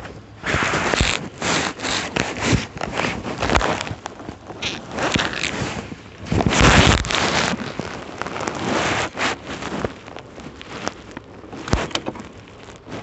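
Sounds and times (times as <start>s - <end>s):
glove rubbing against microphone: 0.0s - 13.0s.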